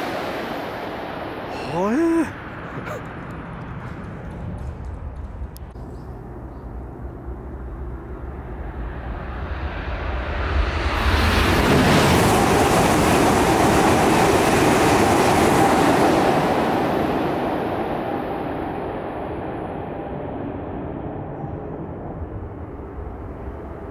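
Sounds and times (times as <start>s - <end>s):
high-speed train rushing past: 0.0s - 23.9s.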